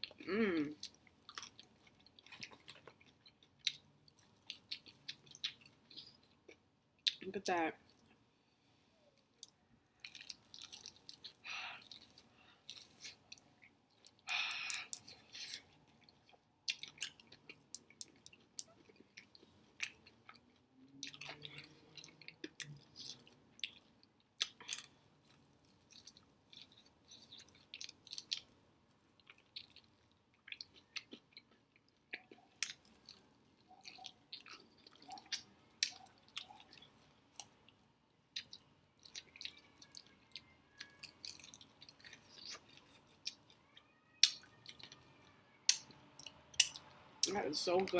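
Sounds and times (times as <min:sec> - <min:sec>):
chewing crispy fried chicken: 0:00.0 - 0:07.2, 0:09.0 - 0:47.9.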